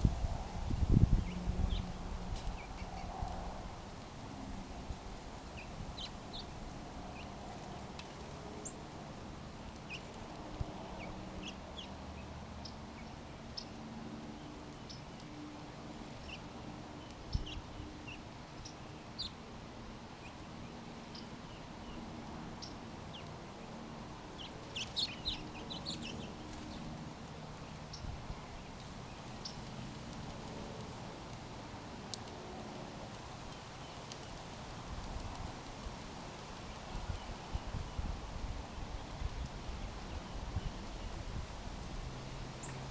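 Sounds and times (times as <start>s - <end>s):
small birds chirping: 0.7s - 19.5s, 20.1s - 42.9s.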